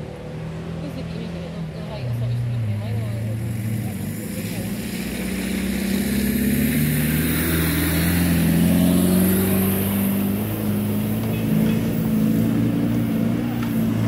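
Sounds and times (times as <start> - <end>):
car engine pulling uphill: 0.0 - 14.0.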